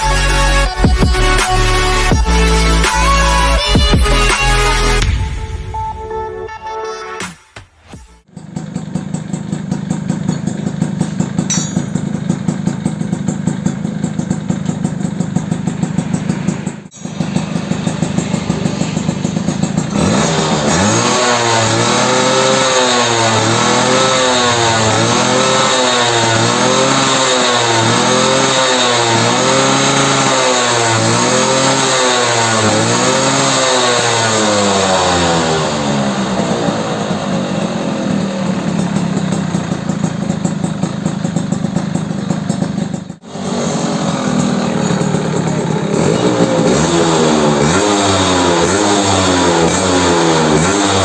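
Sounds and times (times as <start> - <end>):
two-stroke engine idling and revving: 0.0 - 5.1, 8.2 - 51.0.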